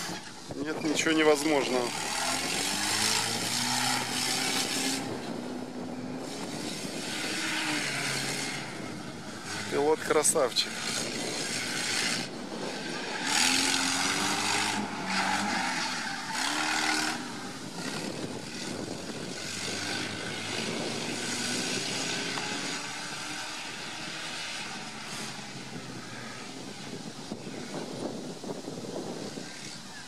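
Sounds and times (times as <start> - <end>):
off-road engine revving: 0.0 - 29.9.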